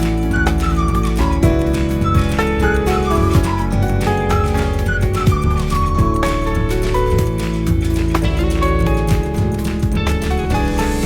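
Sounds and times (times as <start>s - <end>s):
instrumental music with beat: 0.0s - 11.0s.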